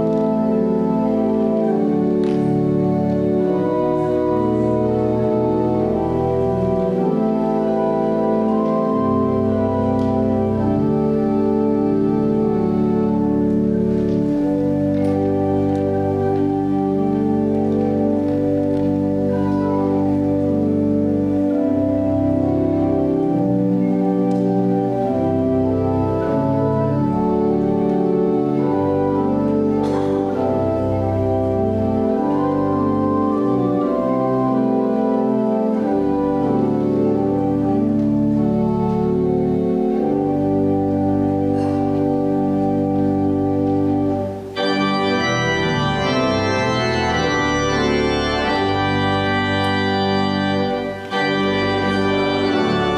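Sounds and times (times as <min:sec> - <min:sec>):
church organ chords: 0:00.0 - 0:52.9.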